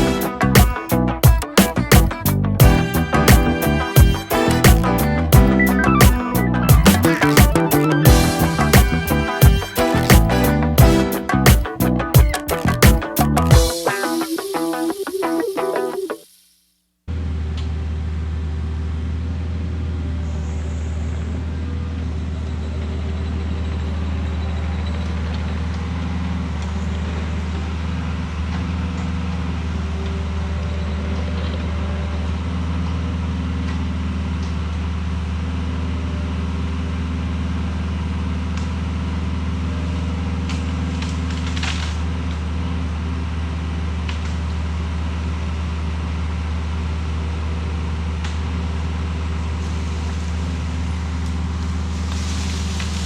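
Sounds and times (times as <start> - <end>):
diesel engine running: 0.0 - 13.7, 17.1 - 53.0.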